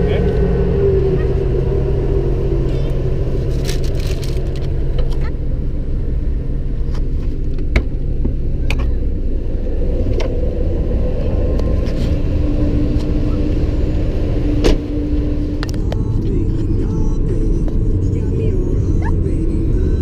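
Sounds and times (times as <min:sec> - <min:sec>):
low hum: 0:00.0 - 0:20.0
ship engines rumbling: 0:00.0 - 0:20.0
steady tone: 0:00.0 - 0:20.0.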